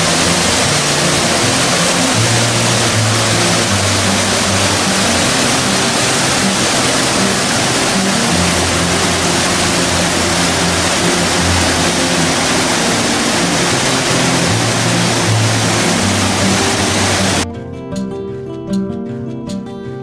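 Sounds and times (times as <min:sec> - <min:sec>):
creek water rushing over rocks: 0:00.0 - 0:17.4
low held music notes: 0:00.0 - 0:19.8.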